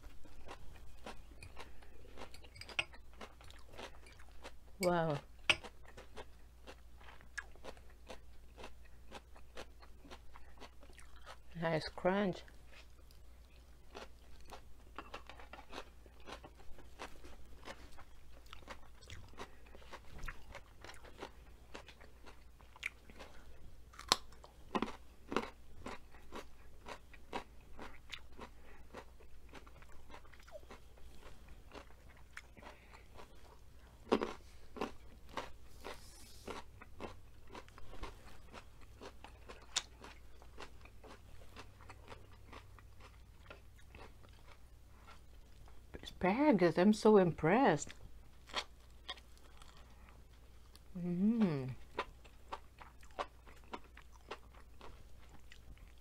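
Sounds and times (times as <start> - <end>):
crunching and chewing: 0.0 - 11.6, 12.4 - 46.0, 47.9 - 56.0.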